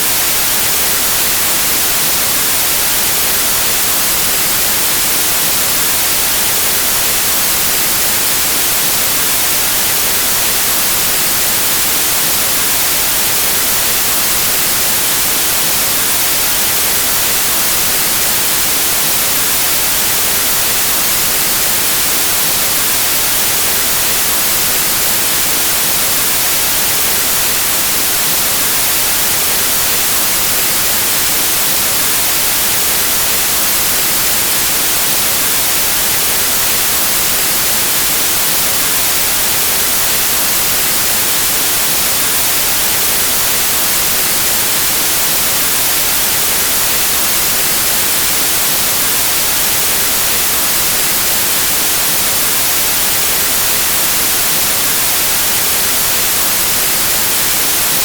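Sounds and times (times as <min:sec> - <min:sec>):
white noise static hiss: 0:00.0 - 0:58.0.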